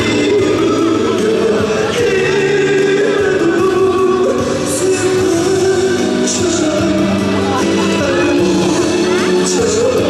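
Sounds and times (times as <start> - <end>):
backing music: 0.0 - 10.0
man singing slow melody: 0.0 - 10.0.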